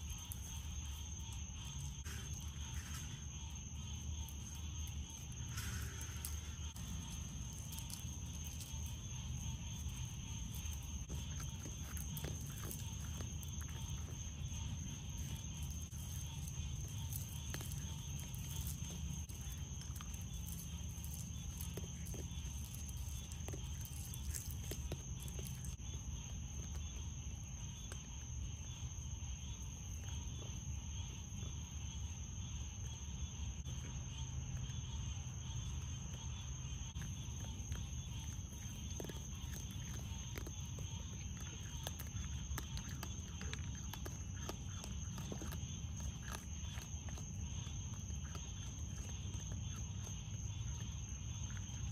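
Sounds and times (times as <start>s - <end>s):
animals chewing dry food: 0.0s - 51.9s
night insects droning: 0.0s - 51.9s
steady low hum: 0.0s - 51.9s.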